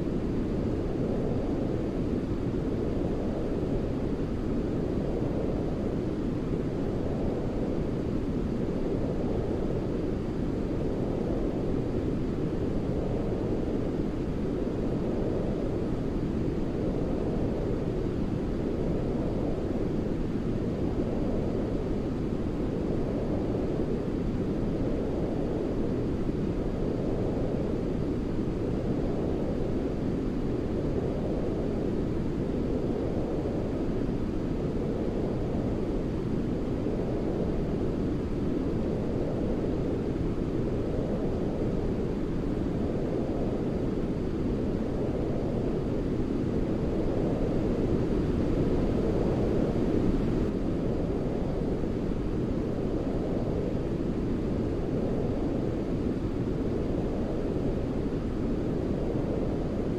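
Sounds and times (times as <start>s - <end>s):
low brown noise: 0.0s - 59.9s.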